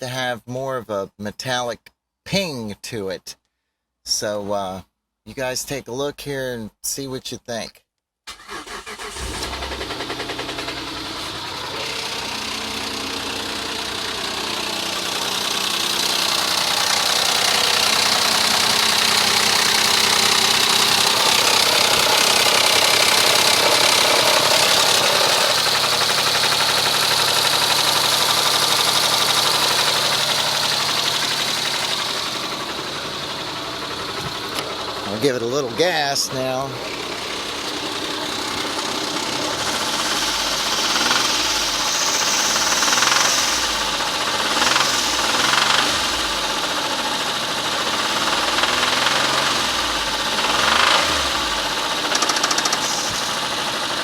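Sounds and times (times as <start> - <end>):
car engine starting and idling: 8.3 - 54.0.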